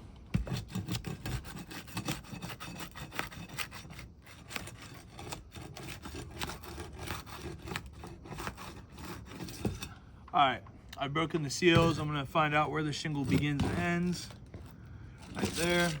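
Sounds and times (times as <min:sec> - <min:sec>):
flat bar scraping under shingles: 0:00.1 - 0:10.1, 0:11.2 - 0:16.0.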